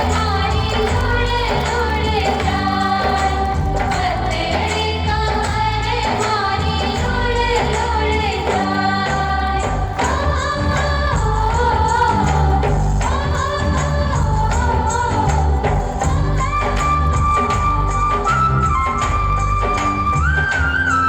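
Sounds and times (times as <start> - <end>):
vocal song over bass beat: 0.0 - 21.0.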